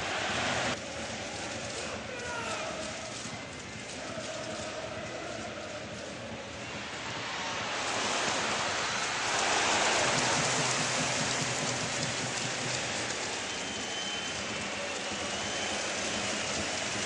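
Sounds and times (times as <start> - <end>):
football stadium crowd roaring: 0.0 - 17.0.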